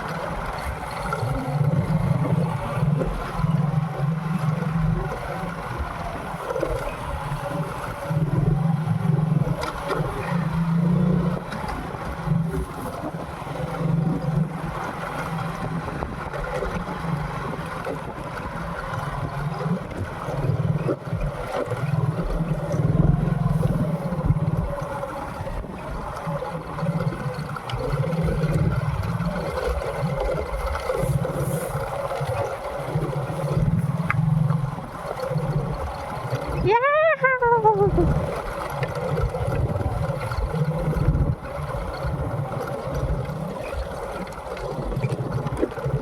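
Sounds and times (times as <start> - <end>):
motorcycle engine running: 0.0 - 46.0
wind noise on microphone: 0.0 - 46.0.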